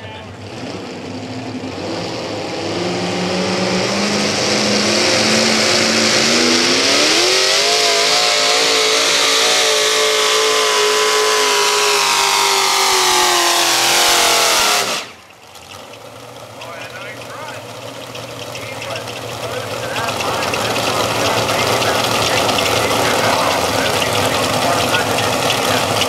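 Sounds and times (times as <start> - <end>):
tractor engines at full throttle: 0.0 - 26.0.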